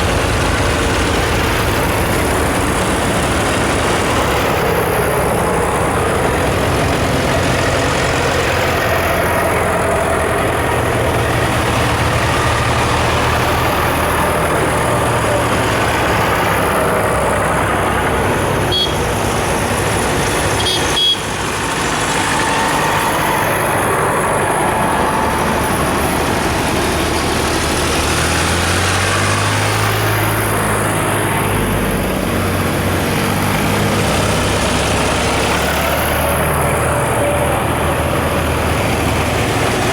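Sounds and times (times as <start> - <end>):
tractor engines driving past: 0.0 - 39.9.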